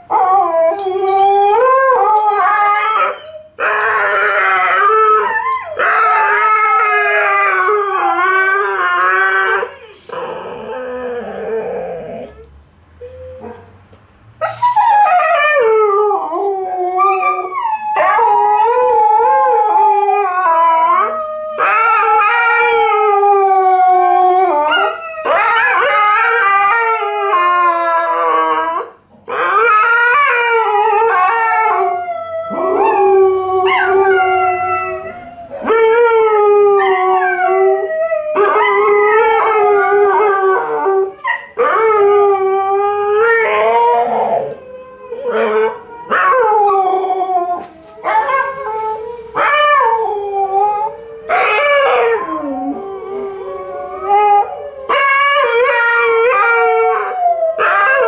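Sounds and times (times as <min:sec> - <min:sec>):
dogs howling: 0:00.0 - 0:12.4, 0:14.4 - 0:58.0.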